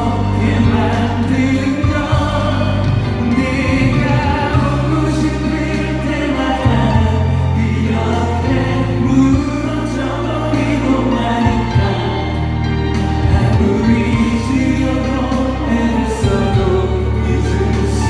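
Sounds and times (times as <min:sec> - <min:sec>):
choir-like singing: 0:00.0 - 0:18.0
held bass notes: 0:00.0 - 0:18.0.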